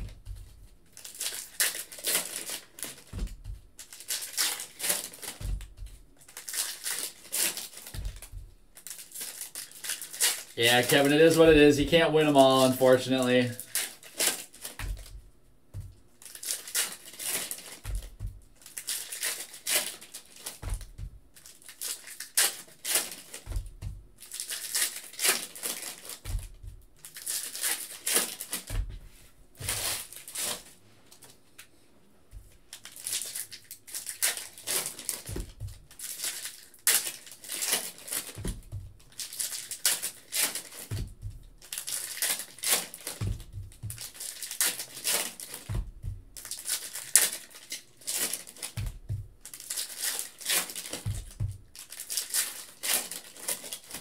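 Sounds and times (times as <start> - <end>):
foil wrappers crinkling and tearing: 0.0 - 15.2, 16.2 - 23.6, 24.2 - 28.7, 29.6 - 31.2, 32.7 - 54.0.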